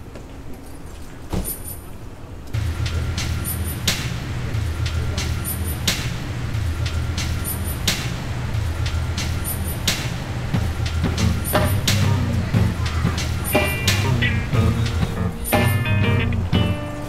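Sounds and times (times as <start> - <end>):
background music with deep bass: 2.6 - 17.0.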